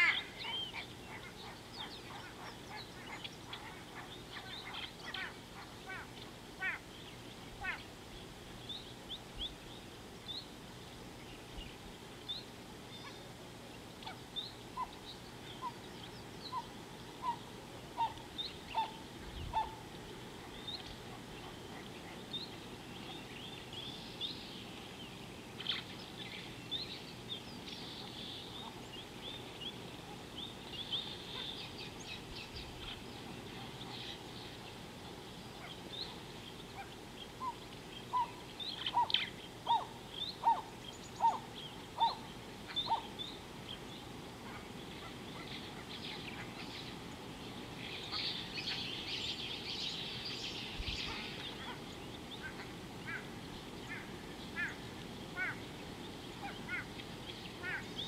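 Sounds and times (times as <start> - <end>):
birds chirping: 0.0 - 58.0
faint background hiss: 0.0 - 58.0.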